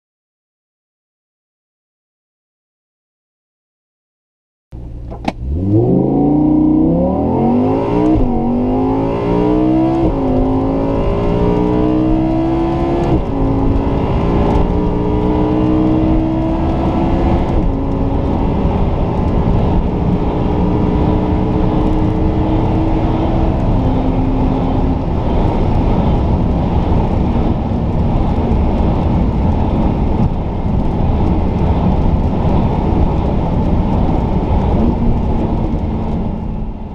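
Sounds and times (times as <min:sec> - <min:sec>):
car engine revving through gears: 0:04.8 - 0:36.6
wind and road noise: 0:04.8 - 0:36.9.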